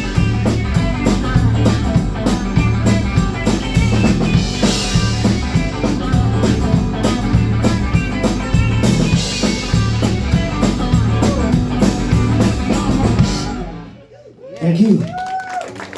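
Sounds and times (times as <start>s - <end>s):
drum kit: 0.0s - 14.0s
low bass notes: 0.0s - 14.0s
rock band playing: 0.0s - 14.0s
guitar: 0.0s - 14.8s.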